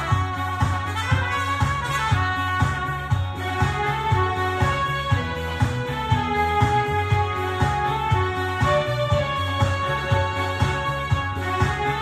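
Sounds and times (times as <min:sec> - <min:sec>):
drum and bass beat: 0:00.0 - 0:12.0
keyboard melody notes: 0:00.0 - 0:12.0.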